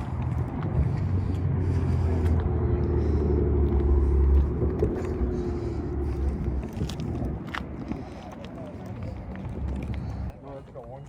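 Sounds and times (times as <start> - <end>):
car engine rumbling: 0.0 - 10.3.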